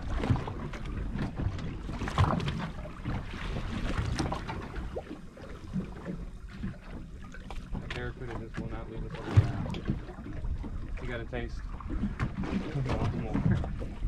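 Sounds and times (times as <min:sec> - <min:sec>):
water slapping boat hull: 0:00.0 - 0:14.0.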